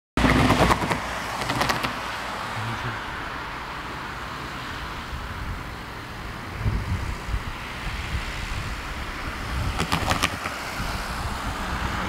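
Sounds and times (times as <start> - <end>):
steady outdoor hiss: 0.2 - 12.0
vehicles driving past: 0.2 - 12.0.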